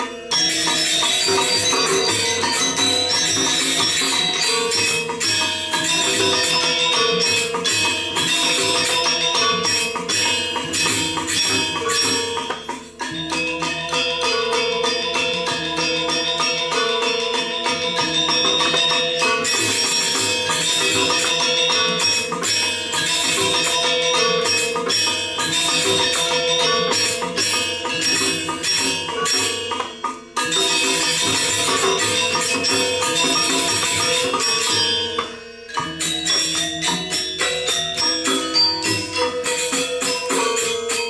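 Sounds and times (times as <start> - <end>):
cymbal clashes: 0.0 - 41.0
metallophone strokes: 0.0 - 41.0.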